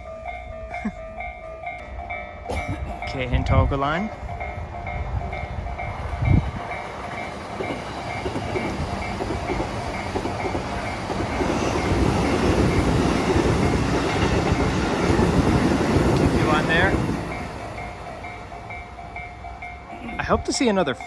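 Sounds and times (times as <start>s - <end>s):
level-crossing warning bell: 0.0s - 21.0s
train rumble and wheel clatter: 0.0s - 21.0s.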